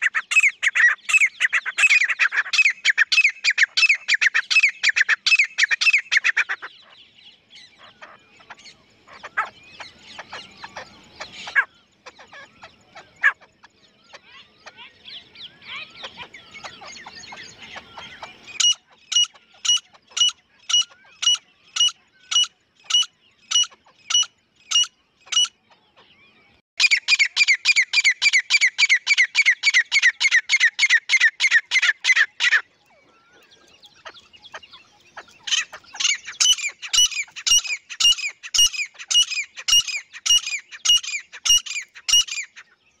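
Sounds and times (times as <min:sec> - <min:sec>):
francolin calling: 0:00.0 - 0:42.7.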